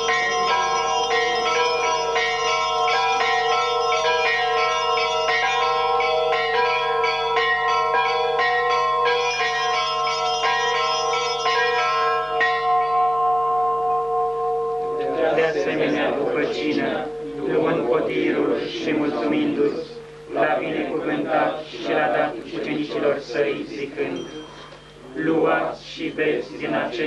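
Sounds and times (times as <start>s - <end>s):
bells ringing rapidly: 0.0s - 21.6s, 24.1s - 25.0s.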